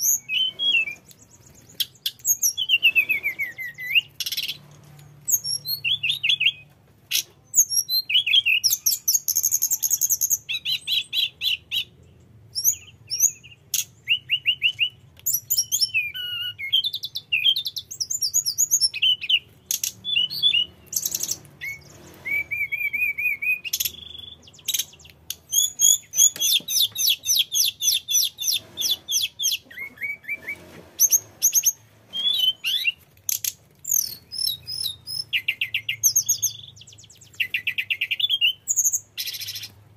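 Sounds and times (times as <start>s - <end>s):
bird singing trills and whistles: 0.0s - 4.6s, 5.2s - 39.8s.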